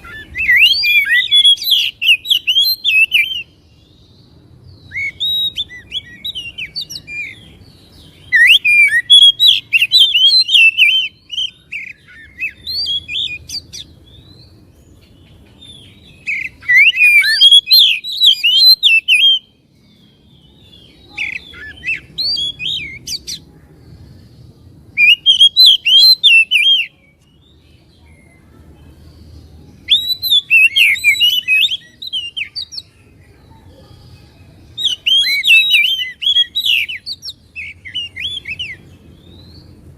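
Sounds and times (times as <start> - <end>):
bird singing whistled notes: 0.0 - 23.5, 24.9 - 28.4, 29.1 - 33.1, 34.1 - 39.8.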